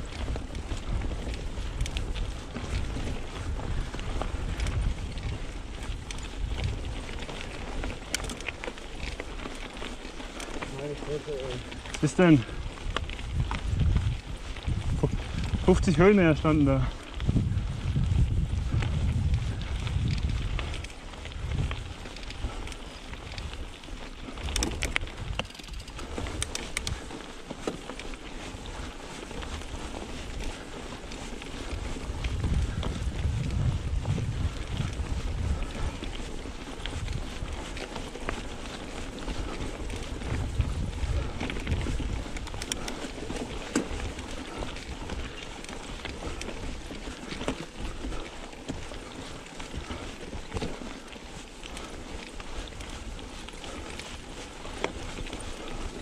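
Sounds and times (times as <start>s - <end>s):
bike rattling: 0.0s - 56.0s
bike tyre noise: 0.0s - 56.0s
wind rumble on microphone: 0.0s - 56.0s.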